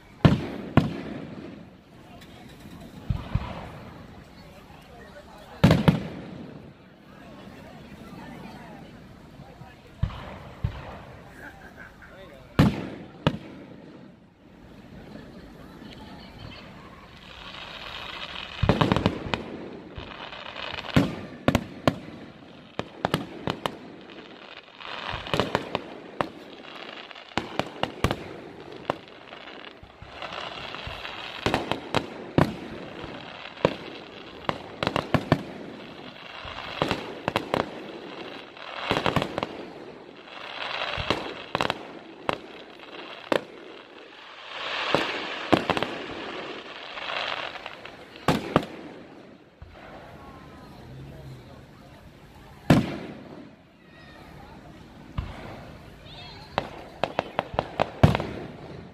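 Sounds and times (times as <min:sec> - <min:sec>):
fireworks bangs: 0:00.0 - 0:58.9
fireworks crackling: 0:00.0 - 0:58.9.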